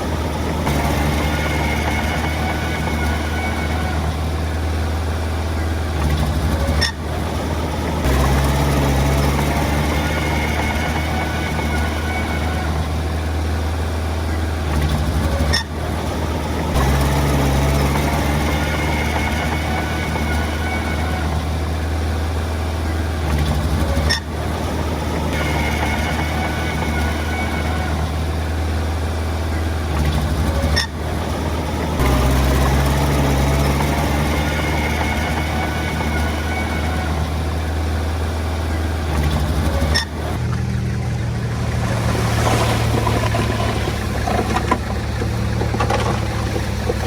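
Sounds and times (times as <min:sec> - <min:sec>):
diesel machinery engine hum: 0:00.0 - 0:47.0.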